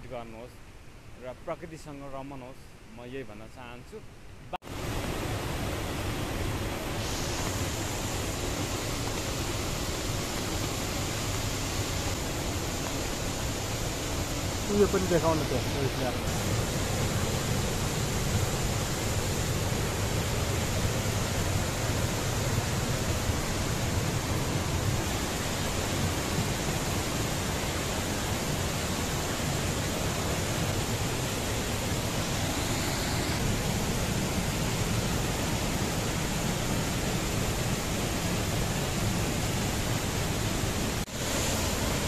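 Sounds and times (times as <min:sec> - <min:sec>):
waterfall rushing: 0:04.7 - 0:42.0.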